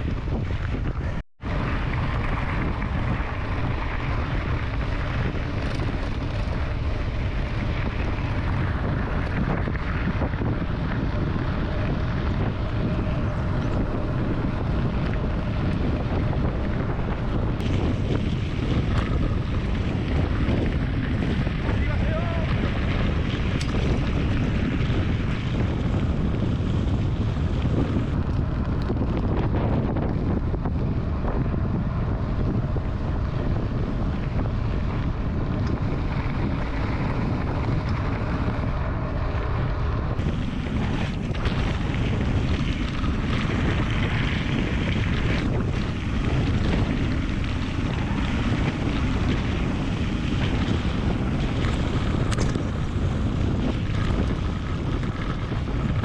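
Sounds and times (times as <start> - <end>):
bike tyres rumbling on gravel: 0.0 - 56.0
wind buffeting microphone: 0.0 - 56.0.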